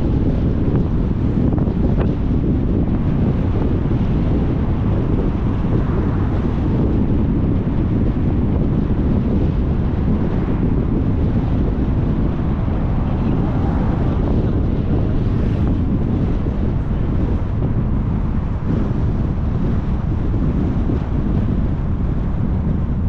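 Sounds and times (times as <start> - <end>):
car tyre and road noise: 0.0 - 23.0
wind buffeting microphone: 0.0 - 23.0.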